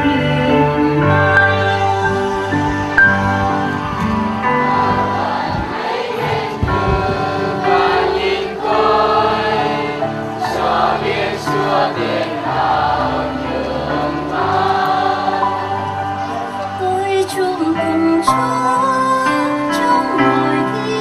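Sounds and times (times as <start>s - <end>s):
church choir singing: 0.0s - 21.0s
instrumental accompaniment: 0.0s - 21.0s.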